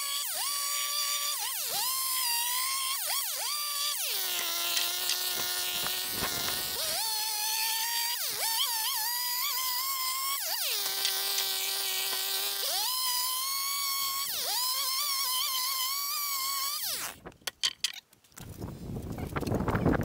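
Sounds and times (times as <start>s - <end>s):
chainsaw cutting wood: 0.0s - 17.3s.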